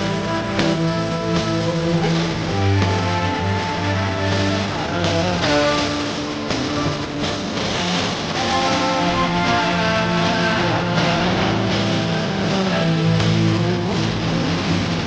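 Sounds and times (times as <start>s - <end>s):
guitar instrumental music: 0.0s - 15.0s
held bass notes: 0.0s - 15.0s.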